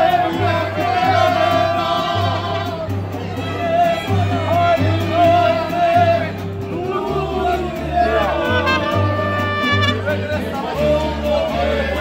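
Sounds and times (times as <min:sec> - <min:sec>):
live band with violin and bass: 0:00.0 - 0:12.0
people singing along loudly: 0:00.0 - 0:12.0.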